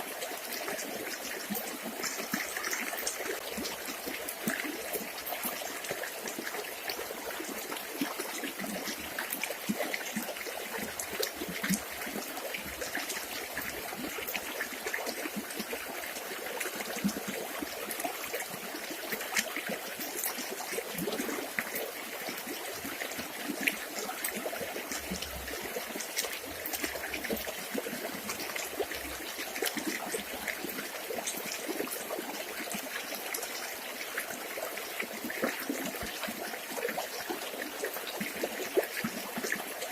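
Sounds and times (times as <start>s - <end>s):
river water trickling and splashing: 0.0s - 39.9s.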